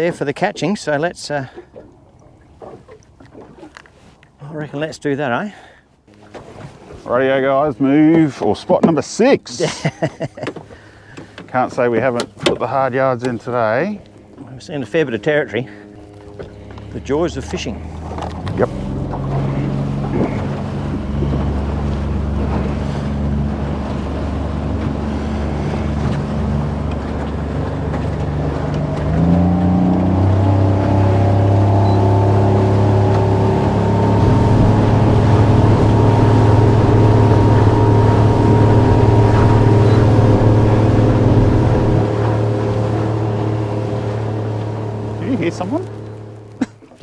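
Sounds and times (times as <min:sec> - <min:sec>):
motorboat engine running: 0:00.0 - 0:05.3, 0:06.0 - 0:47.0.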